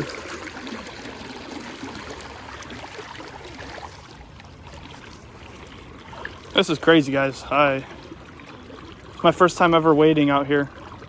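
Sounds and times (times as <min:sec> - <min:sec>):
river current trickling: 0:00.0 - 0:11.0.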